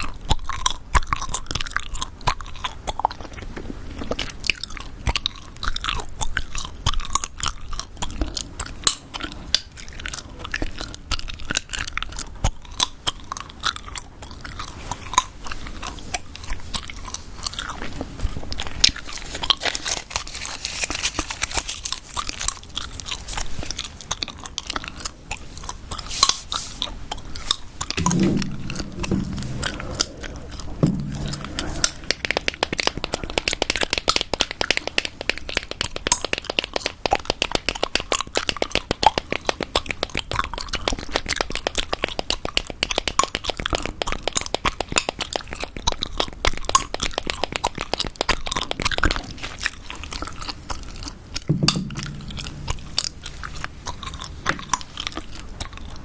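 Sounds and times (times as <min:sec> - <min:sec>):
gum chewing with clicks: 0:00.0 - 0:19.6, 0:20.2 - 0:28.0, 0:30.0 - 0:56.0.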